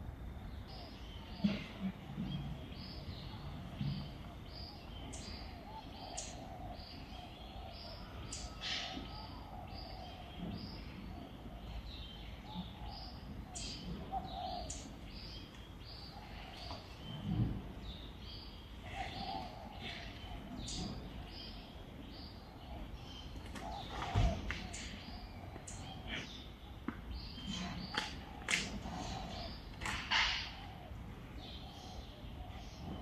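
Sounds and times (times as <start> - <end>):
bird chirping: 0.4 - 33.0.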